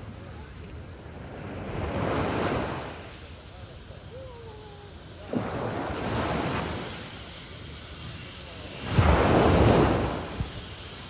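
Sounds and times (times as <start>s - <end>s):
sea waves breaking on beach: 0.0s - 3.6s, 4.2s - 11.0s
wind on microphone: 0.0s - 11.0s.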